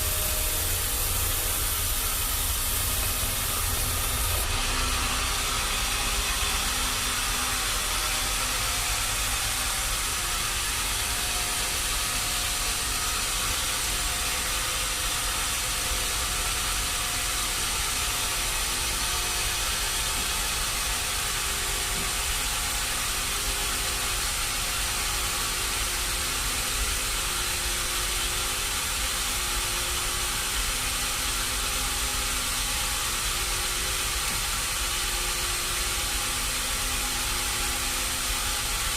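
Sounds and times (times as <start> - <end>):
sawmill machinery hiss and rumble: 0.0 - 38.9.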